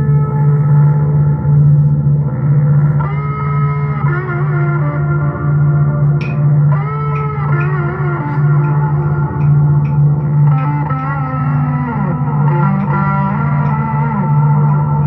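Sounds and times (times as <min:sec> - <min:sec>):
fuzzed electric guitar: 0:00.0 - 0:15.0.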